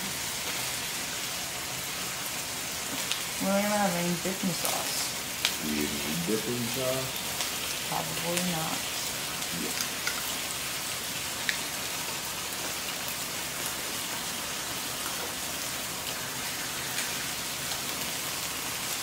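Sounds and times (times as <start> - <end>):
meat sizzling on a grill: 0.0 - 19.0.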